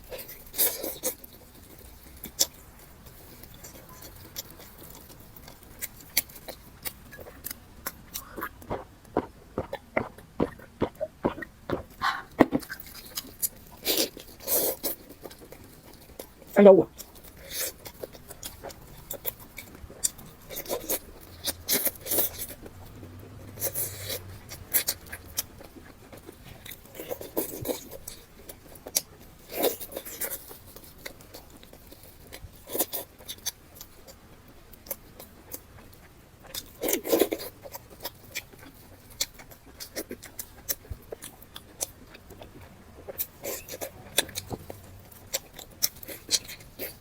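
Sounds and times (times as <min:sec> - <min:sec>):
person chewing and gnawing: 0:00.0 - 0:47.0.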